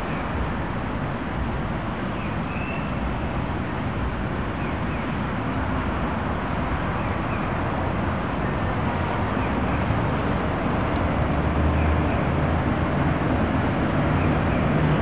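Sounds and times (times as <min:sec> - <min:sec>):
low outdoor background noise: 0:00.0 - 0:15.0.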